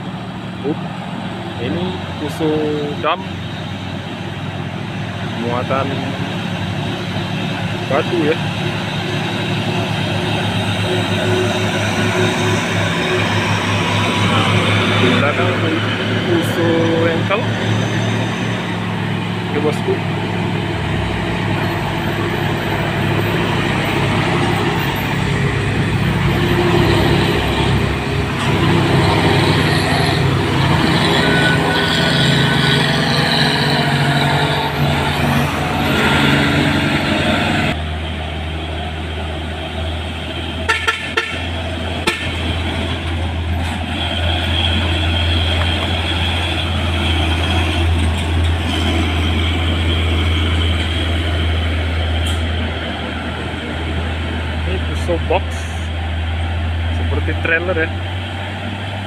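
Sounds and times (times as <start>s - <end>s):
heavy diesel truck engines: 0.0s - 59.0s.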